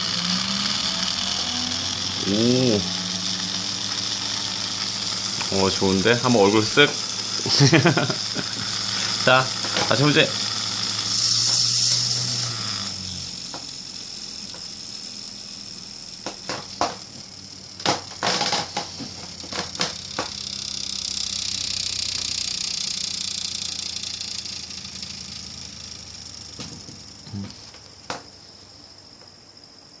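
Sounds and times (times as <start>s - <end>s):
sharp clicks and rattles: 0.0s - 28.4s
small electric motor whirring: 0.0s - 29.9s.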